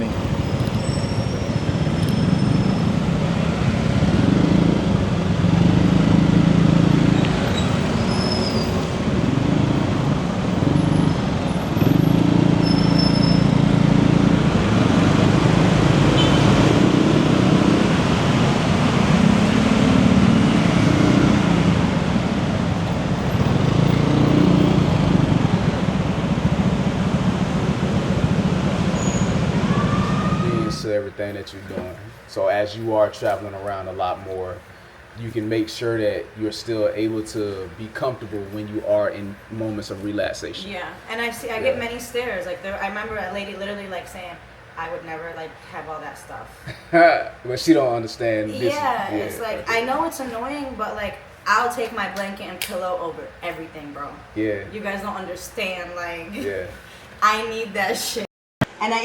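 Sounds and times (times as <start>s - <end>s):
road and traffic noise: 0.0s - 59.0s.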